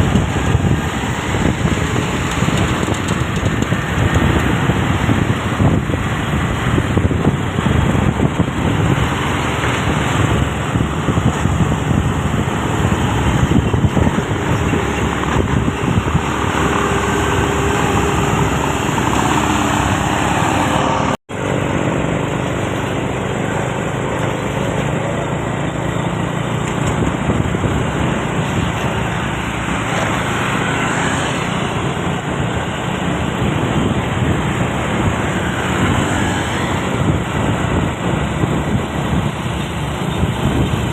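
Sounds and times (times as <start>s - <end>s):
heavy truck driving: 0.0s - 40.9s
road traffic: 0.0s - 40.9s.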